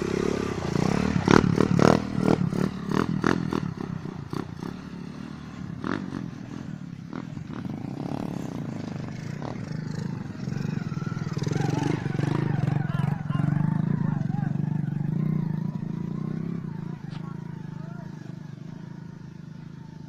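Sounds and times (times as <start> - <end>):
small motorcycle engine running: 0.0 - 20.0.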